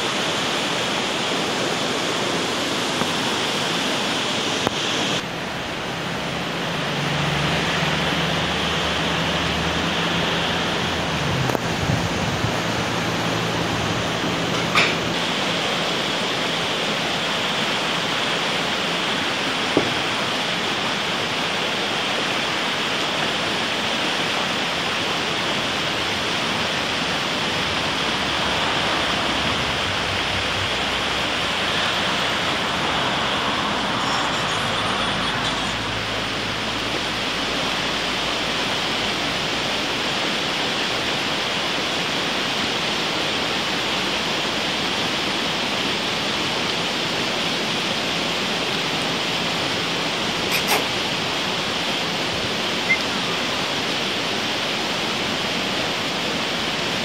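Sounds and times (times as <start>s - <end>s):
fast-flowing stream rushing: 0.0s - 57.0s.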